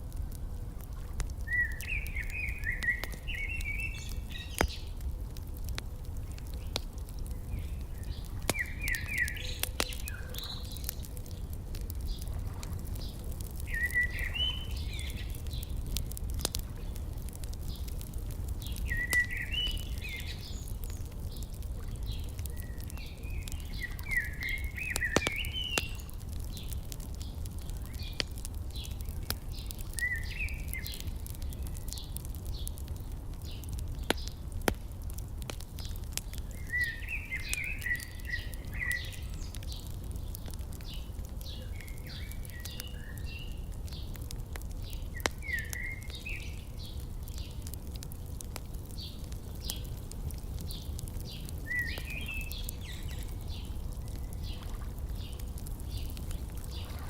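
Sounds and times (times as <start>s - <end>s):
wood fire crackling and popping: 0.0s - 57.0s
songbird chirping: 1.4s - 5.1s, 6.1s - 12.3s, 12.9s - 32.8s, 35.8s - 44.2s, 44.9s - 47.7s, 48.8s - 57.0s.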